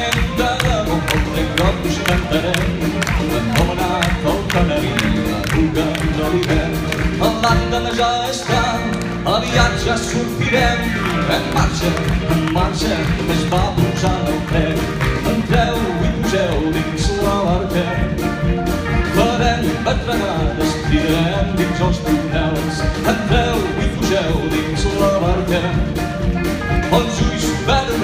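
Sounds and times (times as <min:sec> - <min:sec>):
live band playing: 0:00.0 - 0:28.0
steady drum beat: 0:00.0 - 0:28.0.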